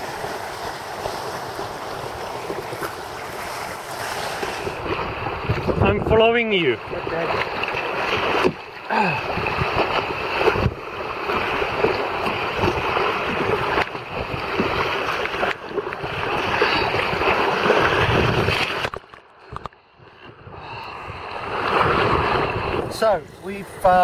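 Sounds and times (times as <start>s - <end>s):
wind on microphone: 0.0s - 8.6s, 9.2s - 24.0s
water rushing and splashing: 0.0s - 24.0s.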